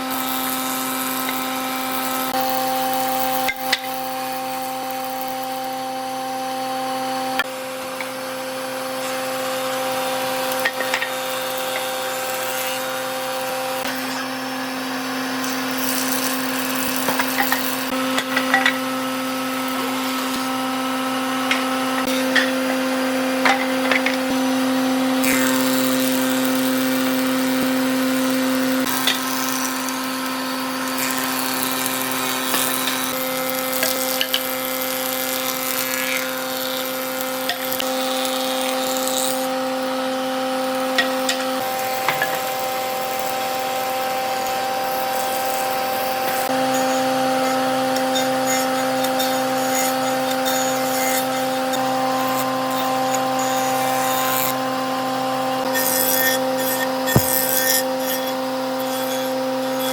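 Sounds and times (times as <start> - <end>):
power tool motor hum: 0.0 - 59.9.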